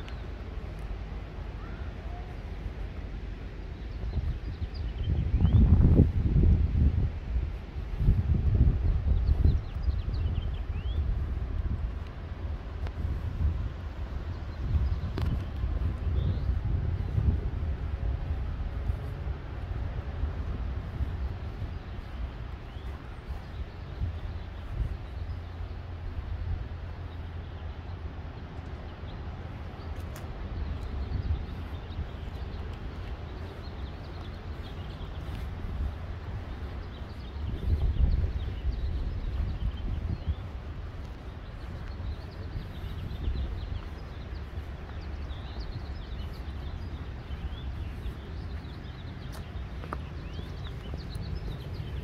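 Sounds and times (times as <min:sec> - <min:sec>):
birds chirping: 0:00.0 - 0:52.0
steady low rumble: 0:00.0 - 0:52.0.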